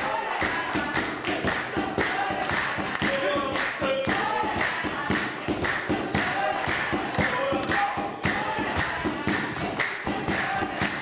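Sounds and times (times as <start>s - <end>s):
group of voices singing: 0.0s - 11.0s
hand claps: 0.0s - 11.0s
thumping beat: 0.0s - 11.0s.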